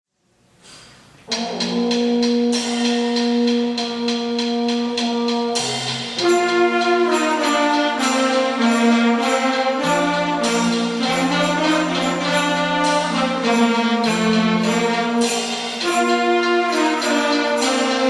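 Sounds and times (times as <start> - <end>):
held brass chords: 1.3 - 18.0.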